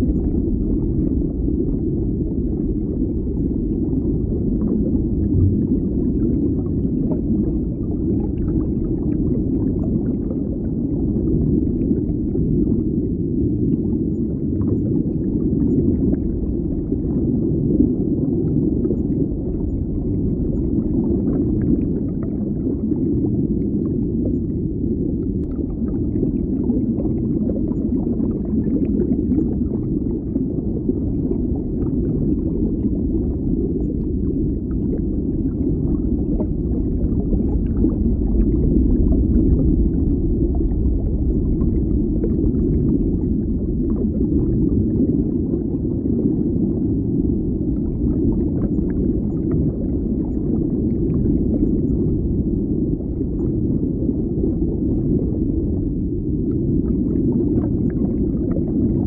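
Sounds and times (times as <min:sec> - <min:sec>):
muffled underwater rumble: 0:00.0 - 0:59.0.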